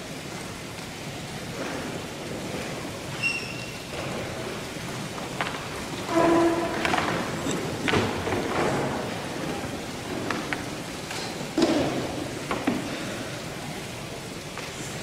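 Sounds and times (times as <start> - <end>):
congregation noise in large church: 0.0 - 15.0.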